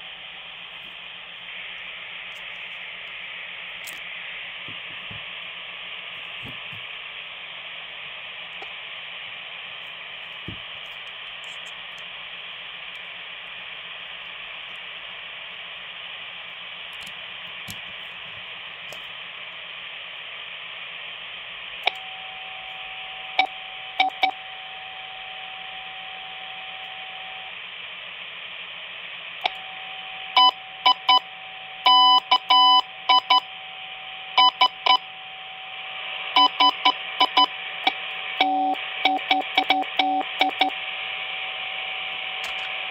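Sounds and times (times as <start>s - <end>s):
radio receiver hiss: 0.0s - 42.9s.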